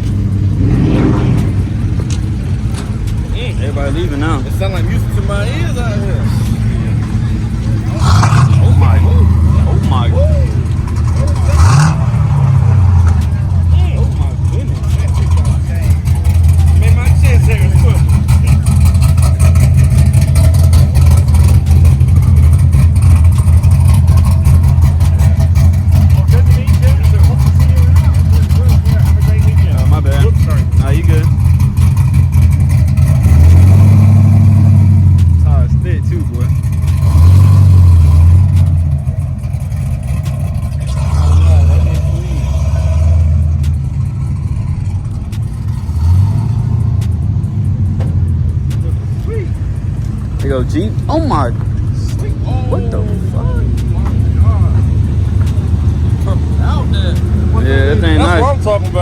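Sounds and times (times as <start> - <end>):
car exhaust rumbling: 0.0 - 59.0.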